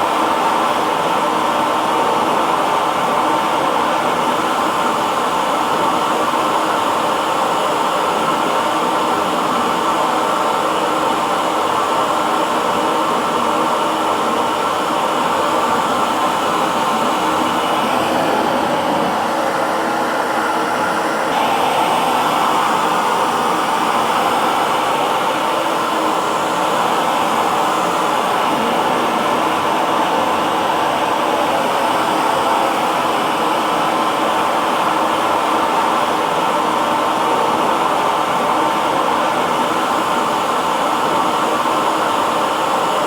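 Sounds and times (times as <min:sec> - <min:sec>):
hair dryer blowing: 0:00.0 - 0:43.0.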